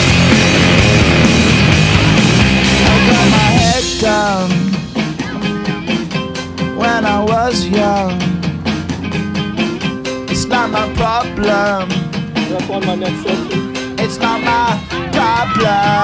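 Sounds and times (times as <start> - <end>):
rock song with singing: 0.0 - 16.0.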